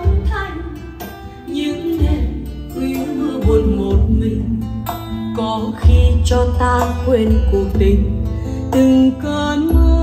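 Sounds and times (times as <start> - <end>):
song with singing and strong bass: 0.0 - 10.0.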